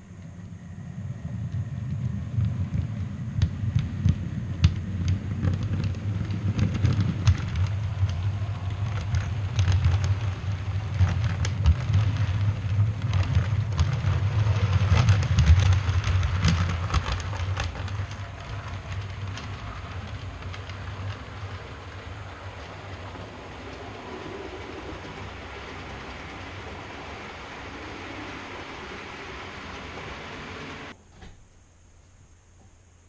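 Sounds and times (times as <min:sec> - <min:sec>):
passing train rumble: 0:00.0 - 0:31.0
train wheels clicking: 0:00.0 - 0:31.0.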